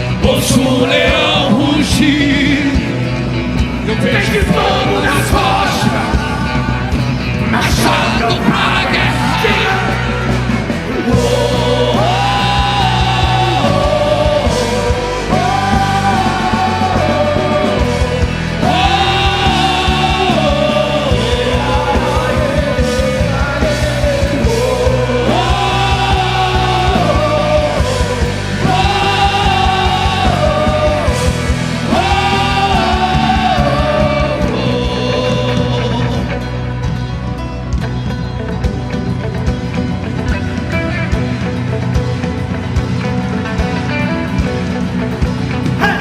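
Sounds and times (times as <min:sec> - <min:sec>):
voices singing: 0:00.0 - 0:36.8
drum kit beats: 0:00.0 - 0:46.0
rock band playing: 0:00.0 - 0:46.0.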